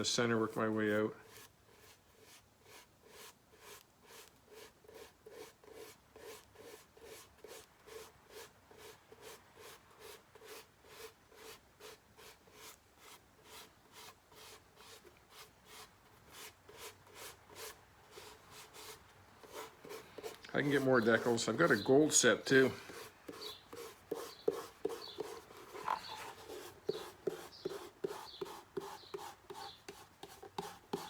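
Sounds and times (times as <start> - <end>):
faint scratchy strokes: 0.0 - 31.0.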